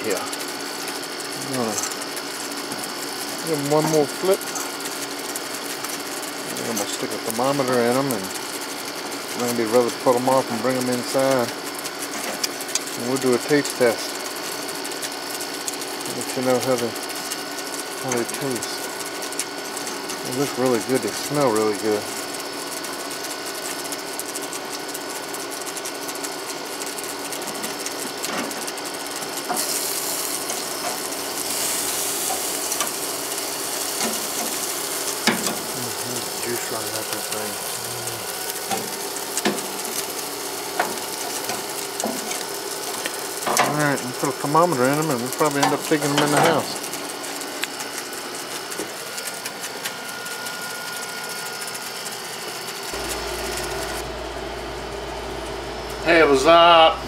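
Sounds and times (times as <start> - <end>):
chicken wings sizzling on a grill: 0.0 - 57.0.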